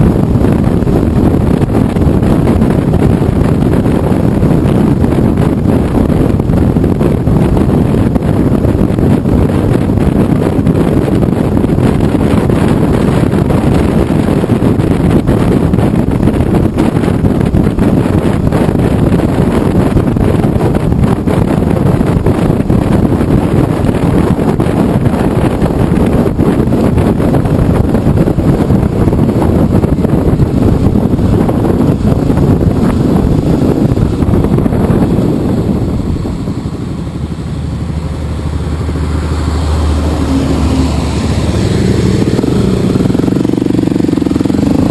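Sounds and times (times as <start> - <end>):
motorcycle engine: 0.0 - 44.9
road noise: 0.0 - 44.9
wind rushing over microphone: 0.0 - 44.9.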